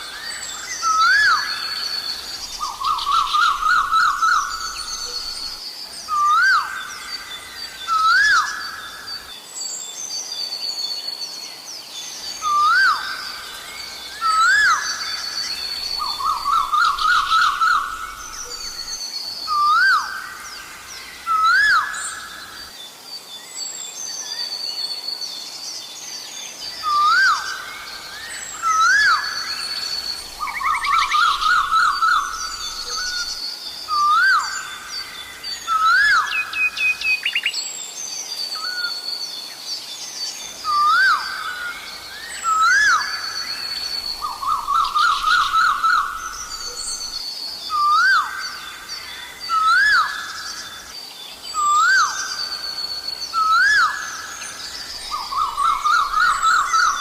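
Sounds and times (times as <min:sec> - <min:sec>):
small birds chirping: 0:00.0 - 0:25.0, 0:25.7 - 0:57.0.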